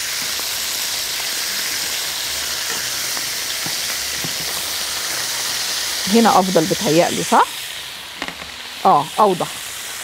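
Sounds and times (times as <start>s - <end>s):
chicken sizzling in a frying pan: 0.0s - 10.0s.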